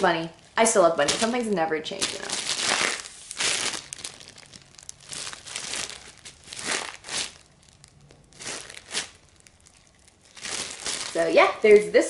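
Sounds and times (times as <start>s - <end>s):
plastic bag crinkling: 1.0s - 11.9s.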